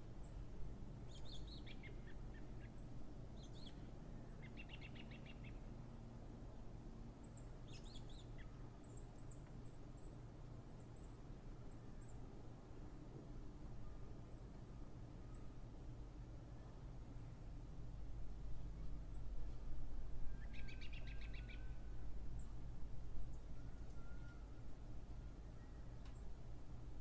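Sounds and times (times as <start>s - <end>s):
faint low rumble: 0.0s - 27.0s.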